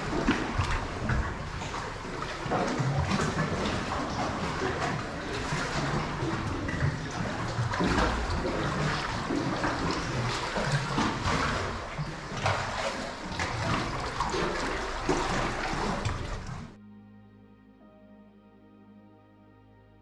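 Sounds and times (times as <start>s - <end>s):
water sloshing against rock: 0.0s - 16.8s.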